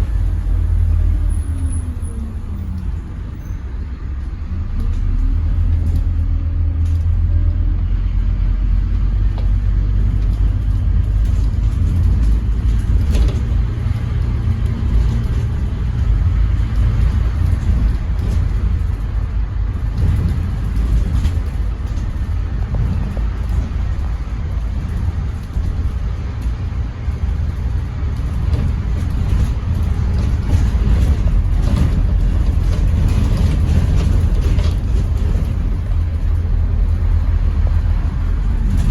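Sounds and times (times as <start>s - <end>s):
bus diesel engine drone: 0.0s - 38.9s
road noise: 0.0s - 38.9s.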